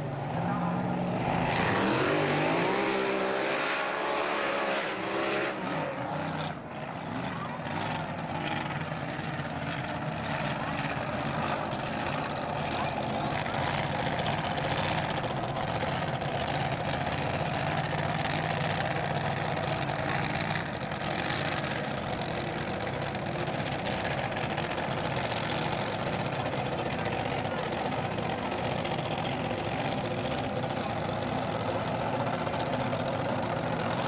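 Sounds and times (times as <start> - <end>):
dragster engine idling: 6.0 - 34.0.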